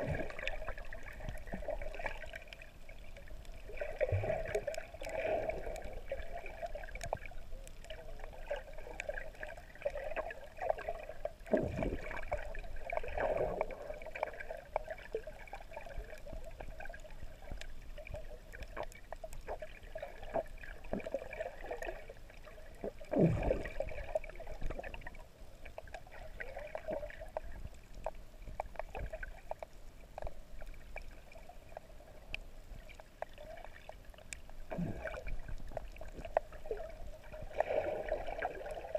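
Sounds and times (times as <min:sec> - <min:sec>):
underwater water sloshing and gurgling: 0:00.0 - 0:38.9.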